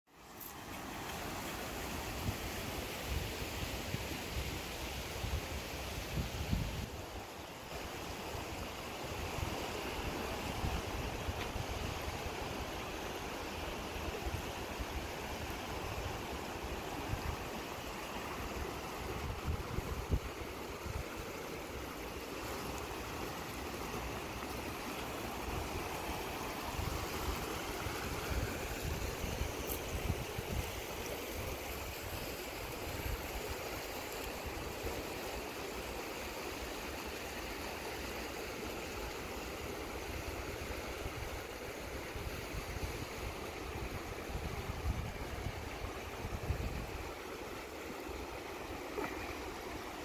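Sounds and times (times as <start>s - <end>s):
whitewater rushing: 6.9s - 50.0s.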